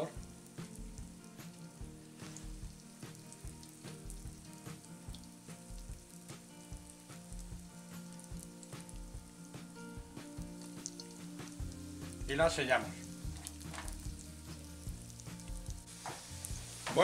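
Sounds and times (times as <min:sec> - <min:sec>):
potato slices sizzling in oil: 0:00.0 - 0:17.0
small oil pops: 0:00.5 - 0:12.2, 0:13.2 - 0:17.0.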